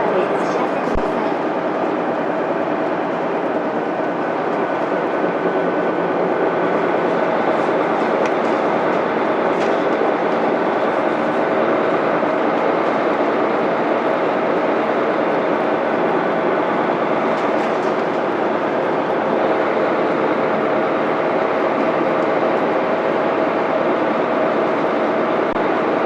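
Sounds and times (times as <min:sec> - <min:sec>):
diesel bus engine running: 0:00.0 - 0:26.0.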